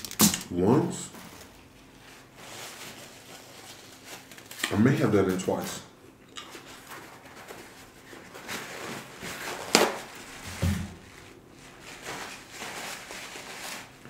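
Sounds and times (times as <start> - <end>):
paper towel rustling: 0.5 - 14.0.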